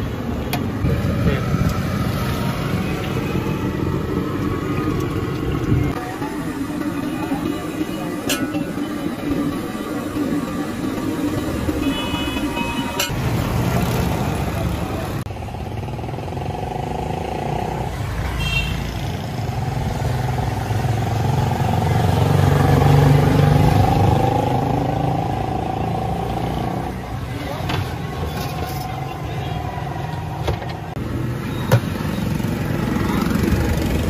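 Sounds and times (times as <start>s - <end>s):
motorcycle engines passing: 0.0s - 10.6s, 11.3s - 34.0s.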